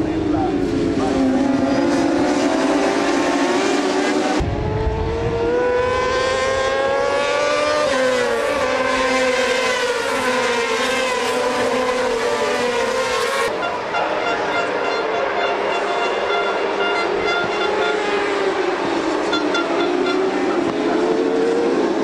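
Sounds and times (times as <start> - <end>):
racing motorcycles accelerating: 0.0 - 22.0.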